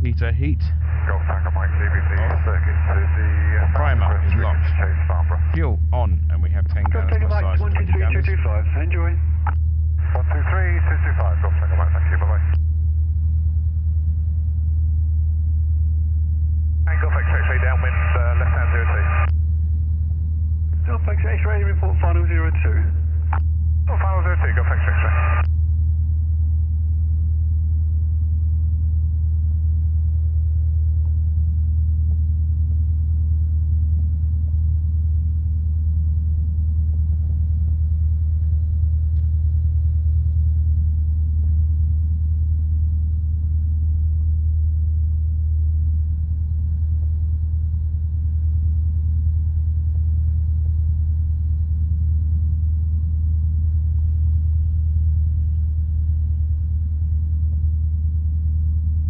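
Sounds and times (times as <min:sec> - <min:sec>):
aircraft engine drone: 0:00.0 - 0:59.0.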